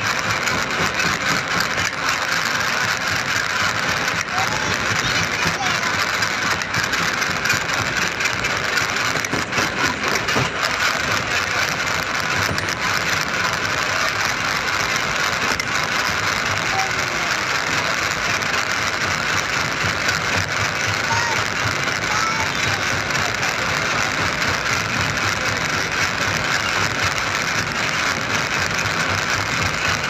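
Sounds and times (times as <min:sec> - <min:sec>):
construction machine engine running: 0:00.0 - 0:30.0.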